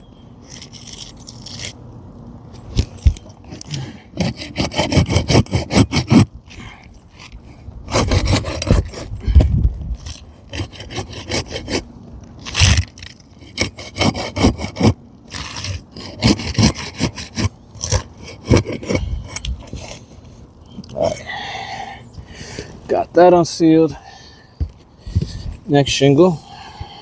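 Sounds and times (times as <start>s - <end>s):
crowbar scraping under shingle: 0.4s - 1.9s, 2.6s - 21.4s, 22.2s - 26.9s.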